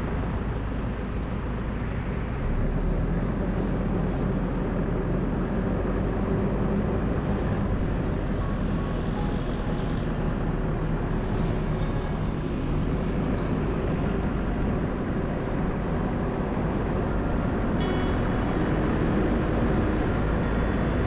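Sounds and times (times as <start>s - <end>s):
road noise: 0.0s - 21.0s
car engine hum: 0.2s - 21.0s.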